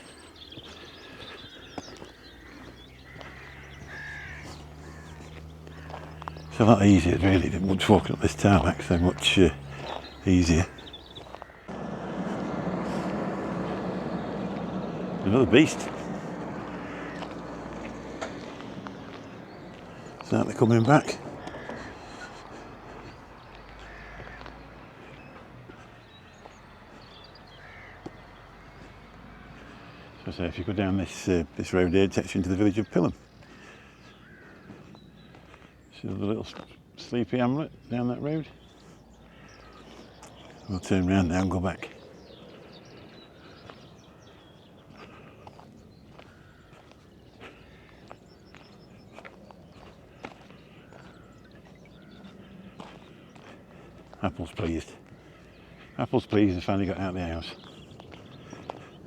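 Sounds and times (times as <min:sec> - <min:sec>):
distant crows cawing: 0:00.0 - 0:59.0
other birds calling: 0:00.0 - 0:59.0.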